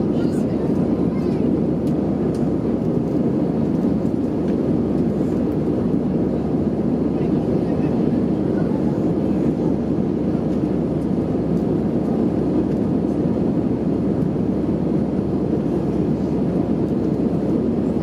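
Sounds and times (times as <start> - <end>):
airplane cabin engine rush: 0.0 - 18.0.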